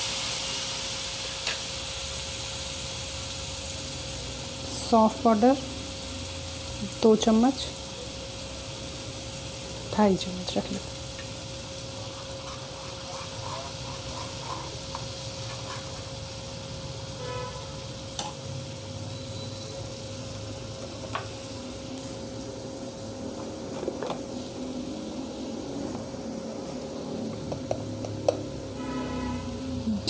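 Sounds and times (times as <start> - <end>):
oil sizzling in a frying pan: 0.0 - 30.0.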